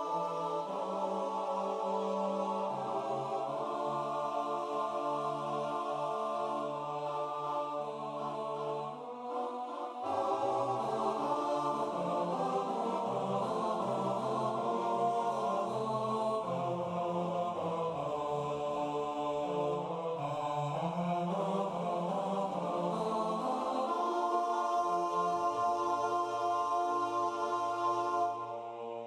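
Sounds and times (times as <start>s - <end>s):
male voices singing in harmony: 0.0s - 29.0s.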